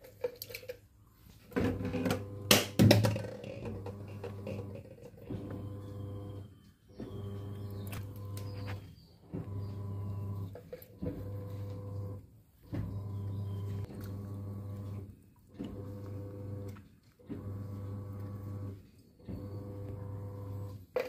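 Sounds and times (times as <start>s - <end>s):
low electric hum: 1.7s - 2.7s, 3.6s - 20.8s.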